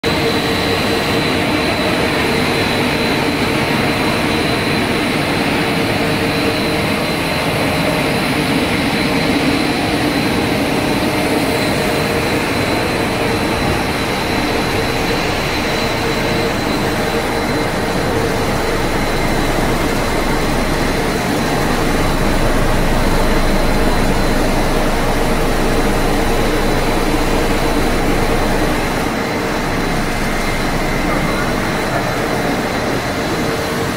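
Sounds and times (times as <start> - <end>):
constant high whine: 0.0 - 33.9
factory machine noise: 0.0 - 33.9.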